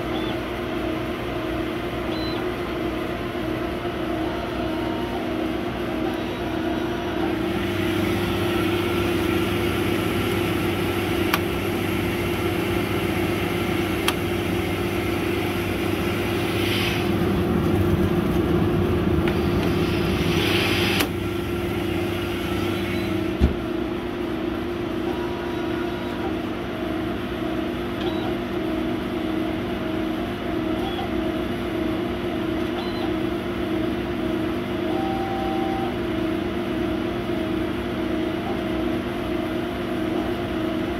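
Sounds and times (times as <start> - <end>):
laser cutter humming: 1.5 - 40.9.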